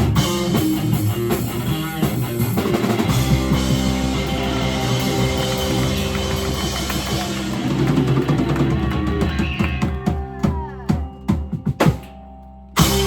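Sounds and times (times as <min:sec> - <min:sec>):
live rock band playing: 0:00.0 - 0:12.1, 0:12.8 - 0:13.0.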